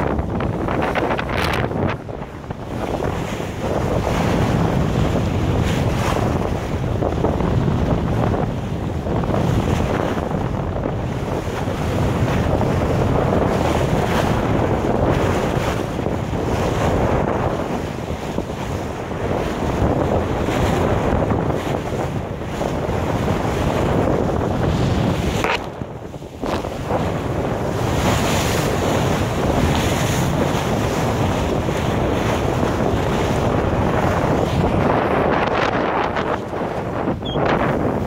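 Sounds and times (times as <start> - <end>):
water rushing along boat hull: 0.0 - 38.0
wind buffeting microphone: 0.0 - 38.0.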